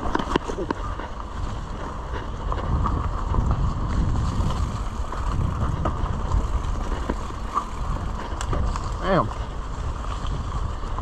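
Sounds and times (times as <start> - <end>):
bike rattling clicks: 0.0 - 11.0
tyres rumbling on dirt: 0.0 - 11.0
wind buffeting microphone: 0.0 - 11.0.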